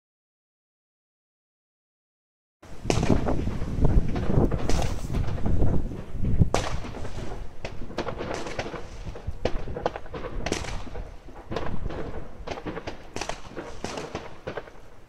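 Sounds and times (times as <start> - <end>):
firecrackers banging: 2.6 - 15.0.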